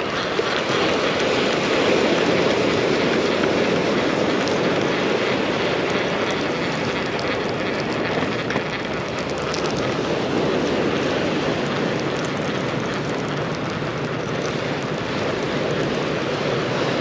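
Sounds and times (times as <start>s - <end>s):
ocean surf: 0.0s - 17.0s
wind noise on microphone: 0.0s - 17.0s.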